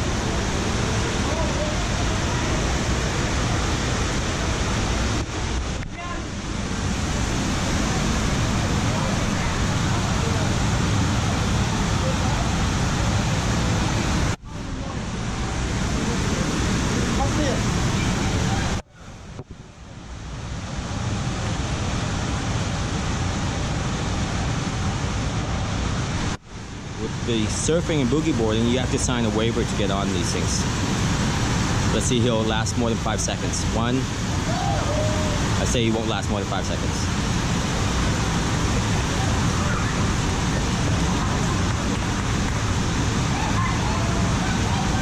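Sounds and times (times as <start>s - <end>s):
water rushing up a ramp: 0.0s - 18.8s, 20.4s - 45.0s.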